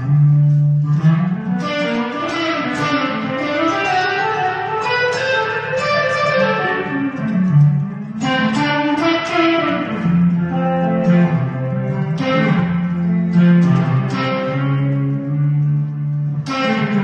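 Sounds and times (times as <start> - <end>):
electric guitar melody: 0.0 - 17.0.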